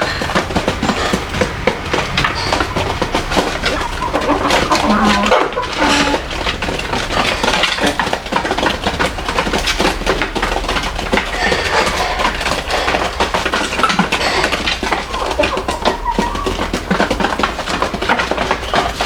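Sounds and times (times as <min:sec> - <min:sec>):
rapid irregular tapping: 0:00.0 - 0:19.0.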